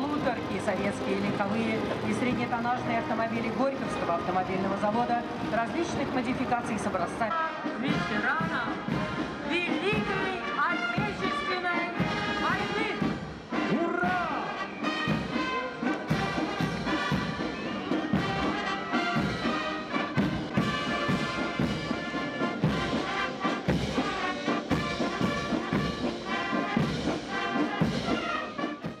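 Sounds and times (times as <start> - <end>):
brass band playing a march: 0.0 - 29.0
steady drum beat: 0.0 - 29.0.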